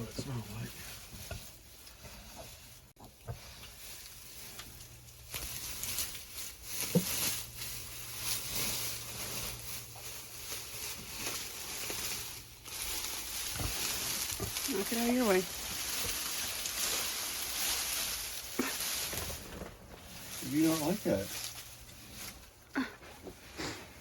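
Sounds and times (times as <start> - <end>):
straw rustling and crackling: 0.0 - 24.0.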